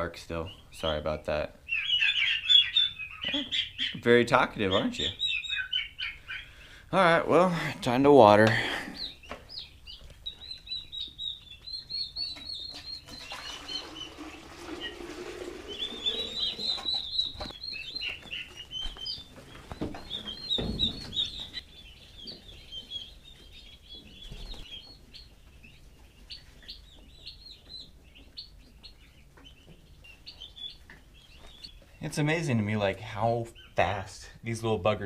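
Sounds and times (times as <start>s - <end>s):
turkey chicks peeping: 0.0s - 35.0s.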